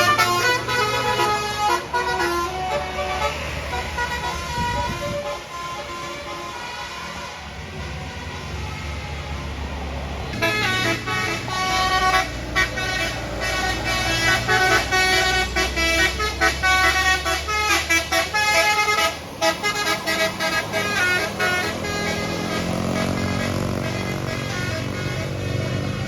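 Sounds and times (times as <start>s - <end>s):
bus engine rumble: 0.0s - 26.0s
musical bus horn tune: 0.0s - 26.0s.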